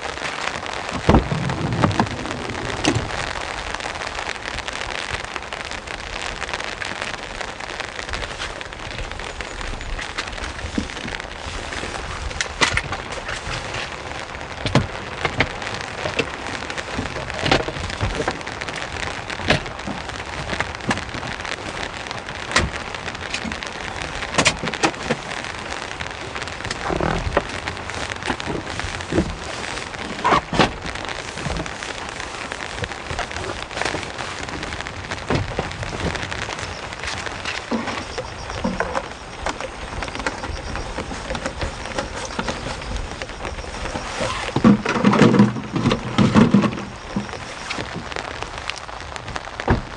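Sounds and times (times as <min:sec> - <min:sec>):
heavy rain on hard surface: 0:00.0 - 0:49.9
large raindrops tapping: 0:00.0 - 0:49.9.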